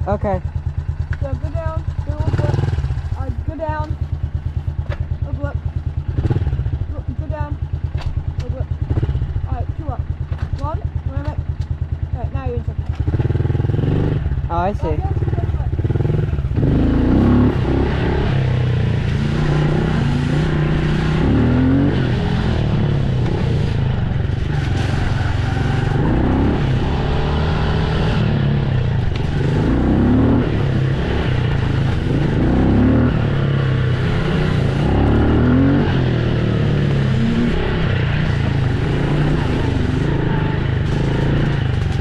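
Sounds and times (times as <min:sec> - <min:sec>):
dirt bike engine revving: 0:00.0 - 0:03.8, 0:05.3 - 0:07.7, 0:08.4 - 0:10.0, 0:12.1 - 0:42.0.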